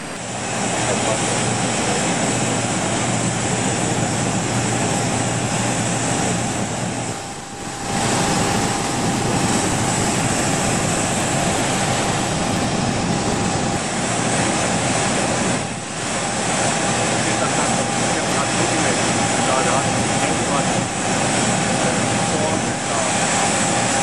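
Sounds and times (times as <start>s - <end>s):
jet engine rushing with whine: 0.0s - 24.0s.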